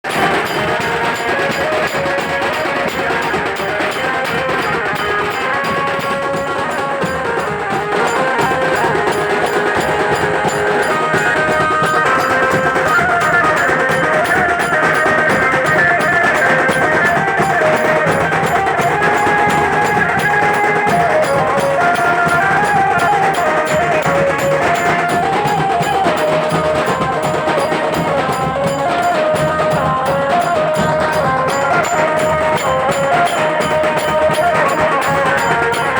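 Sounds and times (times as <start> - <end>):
wandering melody line: 0.1 - 35.9.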